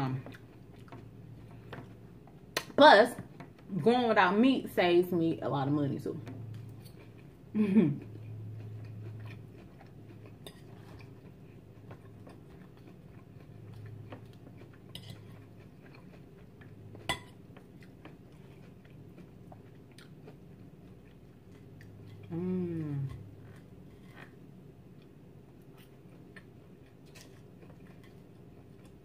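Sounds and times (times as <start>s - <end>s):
chewing salad with crunches: 0.0s - 2.7s, 6.1s - 29.0s
low steady hum: 0.0s - 29.0s.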